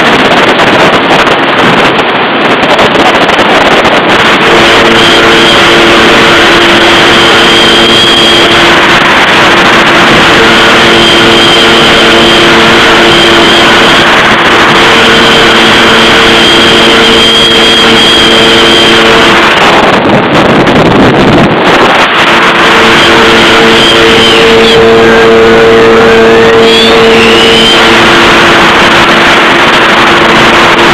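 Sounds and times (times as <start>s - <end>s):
jet ski engine running: 0.0s - 30.9s
rush of wind: 0.0s - 30.9s.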